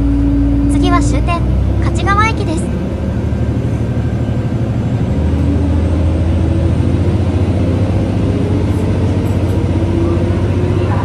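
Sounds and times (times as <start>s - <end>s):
railcar diesel engine drone: 0.0s - 11.0s.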